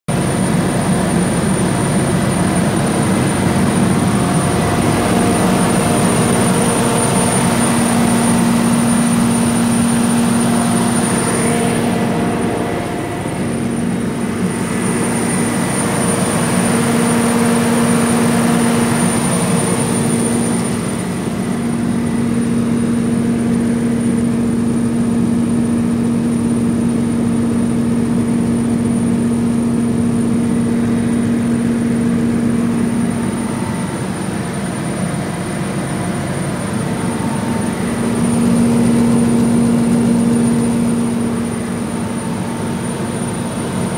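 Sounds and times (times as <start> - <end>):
diesel generator drone: 0.1 - 43.9
thin high whine: 0.1 - 43.9.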